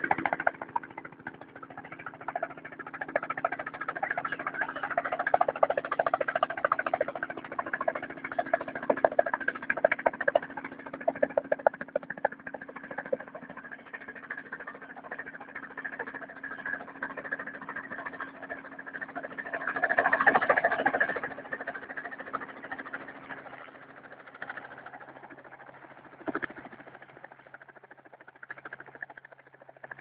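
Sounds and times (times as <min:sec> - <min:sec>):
fast uneven rattle: 0:00.0 - 0:30.0
toy helicopter motor whirring: 0:00.0 - 0:30.0.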